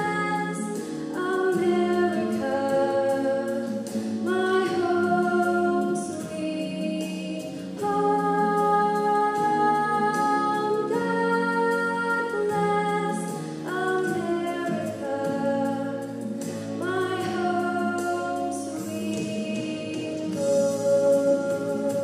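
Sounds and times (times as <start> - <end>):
piano accompaniment: 0.0 - 22.0
woman singing: 0.0 - 22.0.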